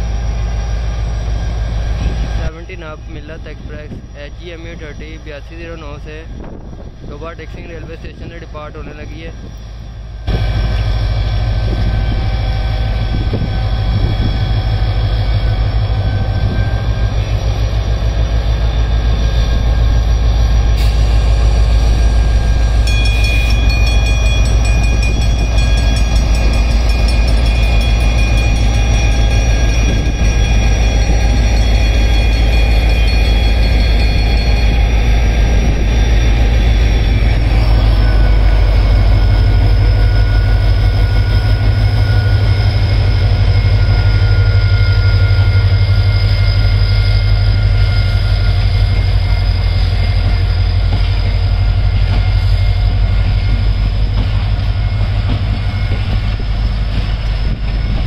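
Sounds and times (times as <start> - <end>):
high steady squealing tones: 0.0 - 58.0
locomotive engine rumble: 0.0 - 58.0
train wheels rolling: 9.6 - 58.0.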